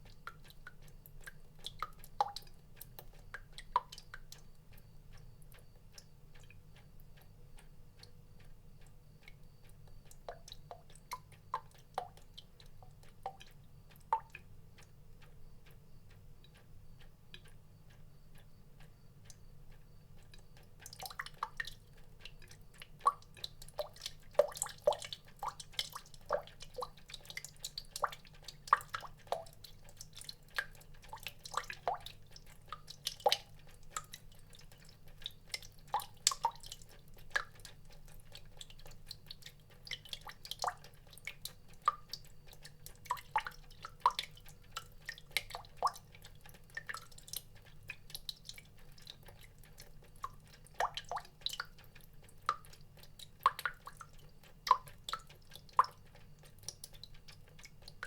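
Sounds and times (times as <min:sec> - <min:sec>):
water drops dripping into water: 0:00.0 - 0:58.0.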